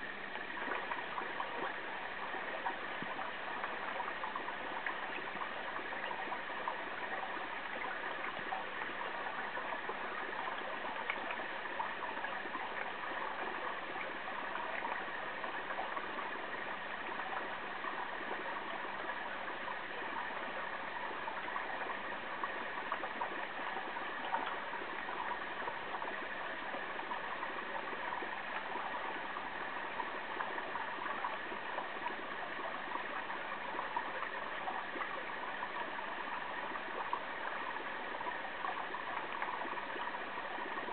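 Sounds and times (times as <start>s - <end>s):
water rushing through pipe: 0.0s - 40.9s.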